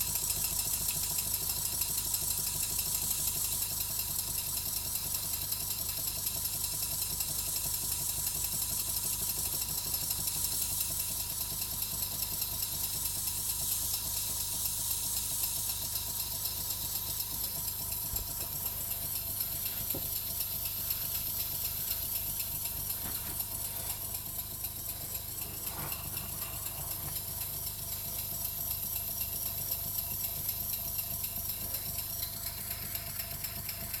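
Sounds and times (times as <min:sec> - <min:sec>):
model steam engine exhaust beats: 0:00.0 - 0:34.0
light mechanical rattle: 0:00.1 - 0:34.0.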